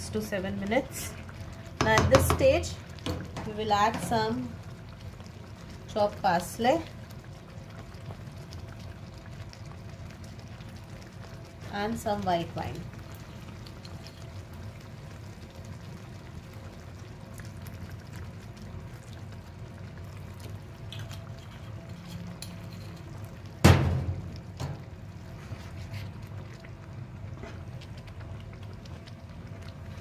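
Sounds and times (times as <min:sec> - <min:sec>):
sauce bubbling: 0:00.0 - 0:30.0
wine pouring into a pan: 0:00.2 - 0:30.0.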